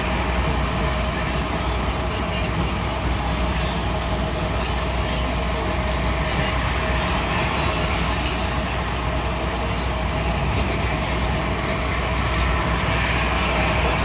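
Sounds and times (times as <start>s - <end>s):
road noise hiss: 0.0s - 14.0s
truck diesel engine drone: 0.0s - 14.0s.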